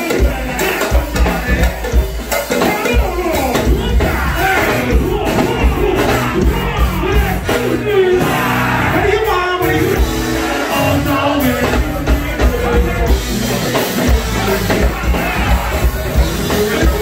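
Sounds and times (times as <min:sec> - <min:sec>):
keyboards: 0:00.0 - 0:17.0
person singing: 0:00.0 - 0:17.0
steady drum beat: 0:00.0 - 0:17.0.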